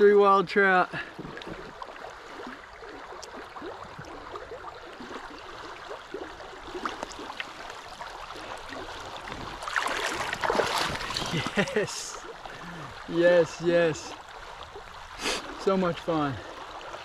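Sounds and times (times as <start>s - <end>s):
creek babbling: 0.0s - 17.0s.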